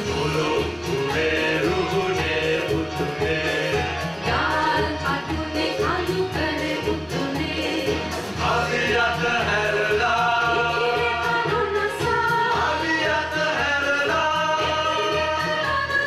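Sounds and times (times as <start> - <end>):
voices singing held notes: 0.0 - 16.0.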